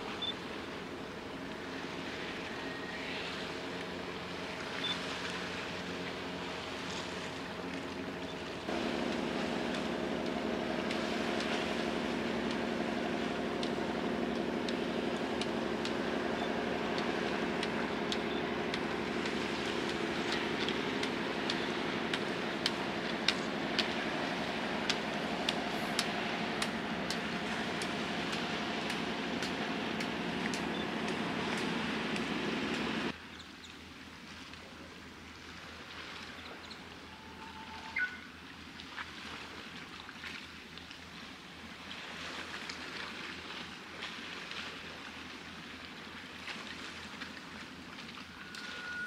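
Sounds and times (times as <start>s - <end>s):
ship engine drone: 0.0s - 33.2s, 34.8s - 39.7s, 44.7s - 49.0s.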